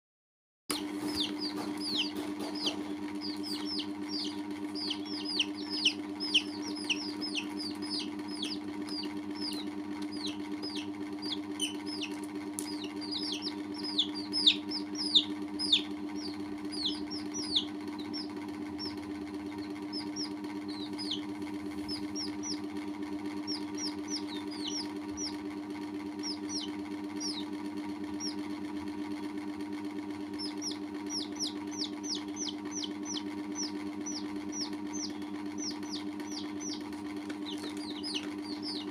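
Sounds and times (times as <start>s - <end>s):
baby chicks peeping: 0.7s - 38.9s
low mechanical hum: 0.7s - 38.9s.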